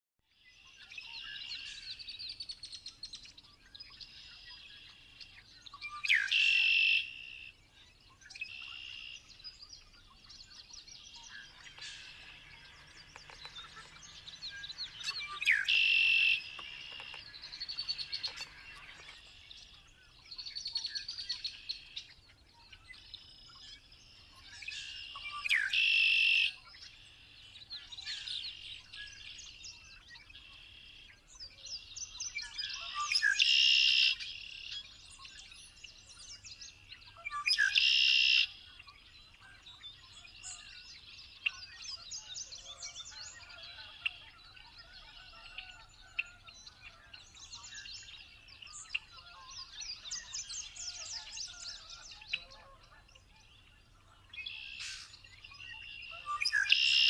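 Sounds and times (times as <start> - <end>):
blackbird song with held trill: 0.3 - 57.0
birds chirping: 1.0 - 57.0.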